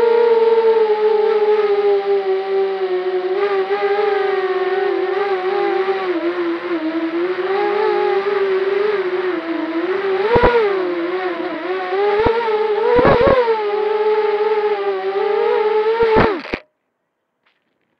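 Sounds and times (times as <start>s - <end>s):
quadcopter motors whining: 0.0s - 16.6s.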